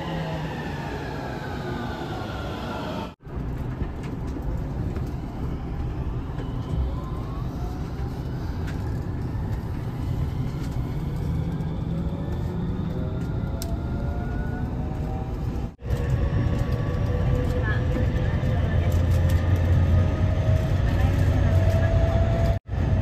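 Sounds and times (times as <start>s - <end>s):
falling tone of train: 0.0s - 23.0s
train wheels rumbling on rail: 0.0s - 23.0s.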